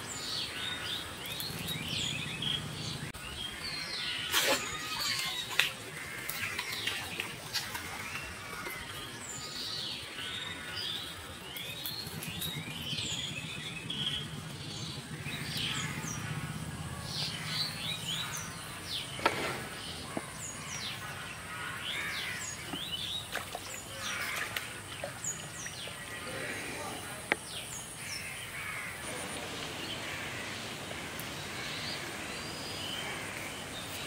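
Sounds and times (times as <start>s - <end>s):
birds chirping and calling: 0.0s - 34.0s.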